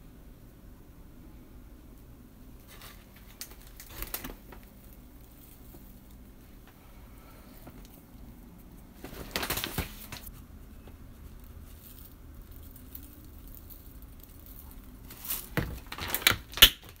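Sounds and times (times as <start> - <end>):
sesame seeds pattering onto noodles: 2.6 - 17.0.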